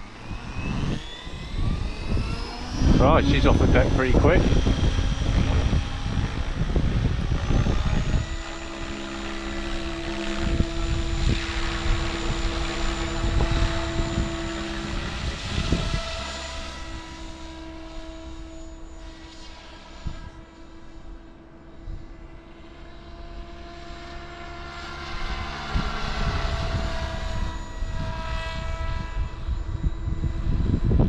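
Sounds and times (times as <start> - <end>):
rc helicopter rotor buzz: 0.0 - 31.0.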